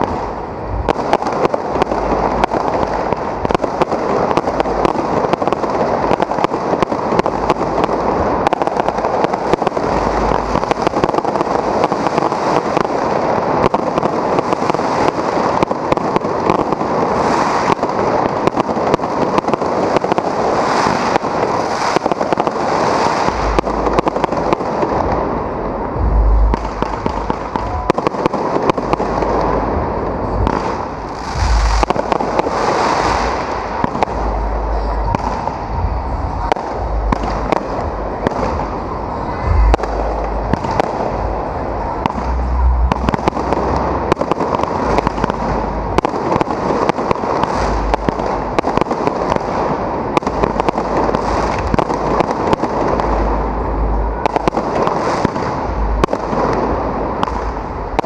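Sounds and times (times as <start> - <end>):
deep firework booms: 0.0 - 58.0
fireworks crackling: 0.0 - 58.0.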